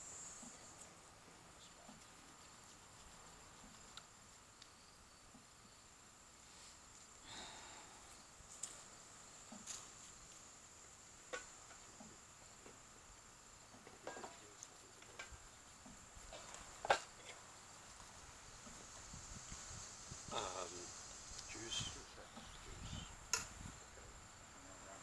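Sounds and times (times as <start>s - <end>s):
insect trill: 0.0s - 25.0s
faint clicks and rustles: 0.2s - 7.2s, 8.0s - 25.0s.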